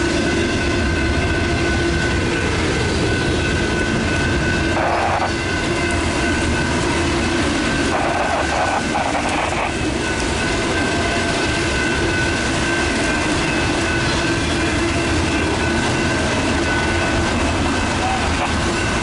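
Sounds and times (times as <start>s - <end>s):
crossing bells ringing: 0.0s - 19.0s
freight train wheels rumbling on rail: 0.0s - 19.0s.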